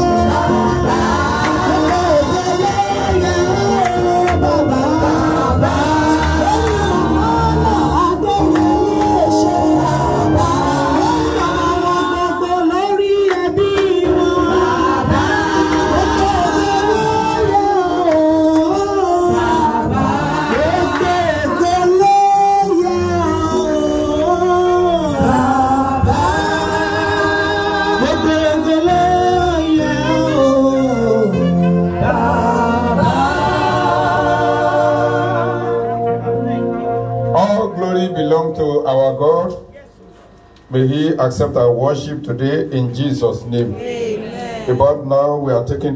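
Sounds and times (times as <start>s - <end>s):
group singing gospel song: 0.0s - 38.6s.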